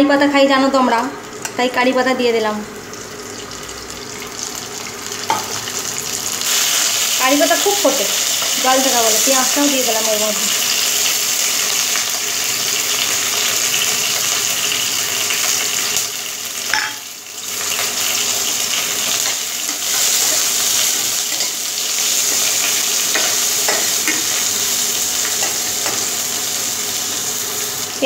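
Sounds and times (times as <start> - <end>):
onions sizzling in hot oil: 0.7 - 28.0.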